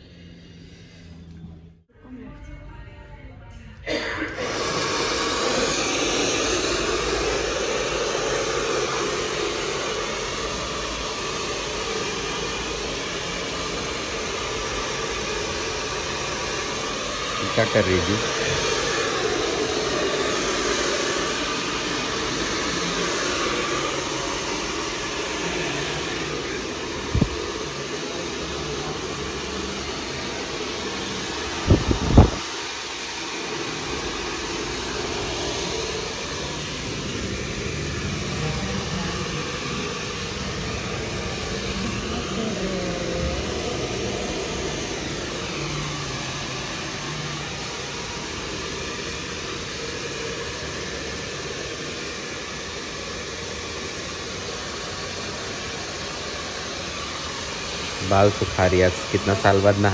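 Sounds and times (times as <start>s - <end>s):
hair dryer running: 3.9s - 59.9s.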